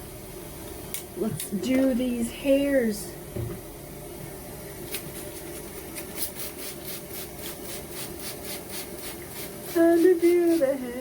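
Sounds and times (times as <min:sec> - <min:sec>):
fan humming: 0:00.0 - 0:11.0.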